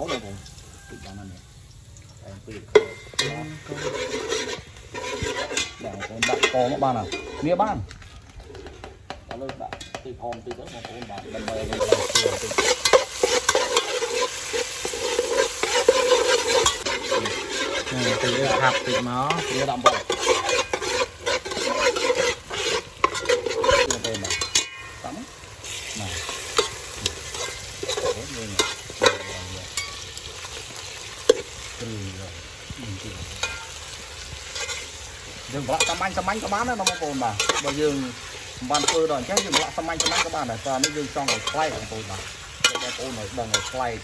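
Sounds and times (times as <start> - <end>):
food sizzling in hot oil: 0.0 - 44.0
metal ladle scraping a pot: 2.6 - 31.8, 33.3 - 44.0.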